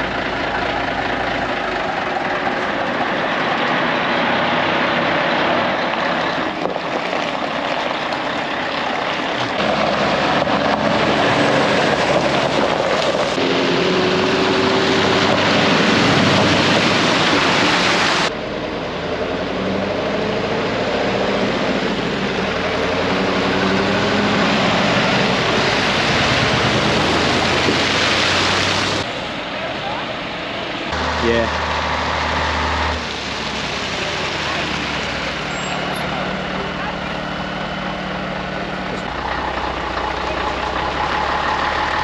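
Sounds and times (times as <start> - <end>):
heavy lorry engines running: 0.0 - 42.0.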